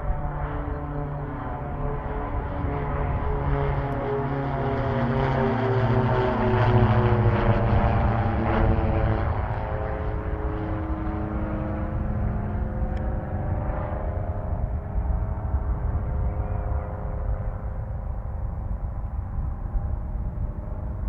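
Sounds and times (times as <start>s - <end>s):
airliner passing close by: 0.0s - 21.0s.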